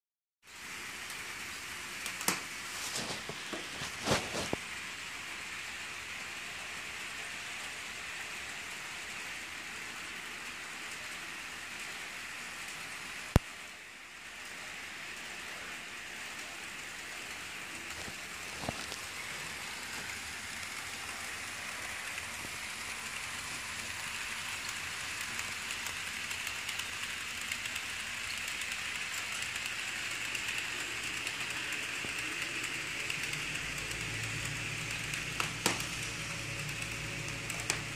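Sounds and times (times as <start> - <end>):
model train whirring: 0.5 - 37.9.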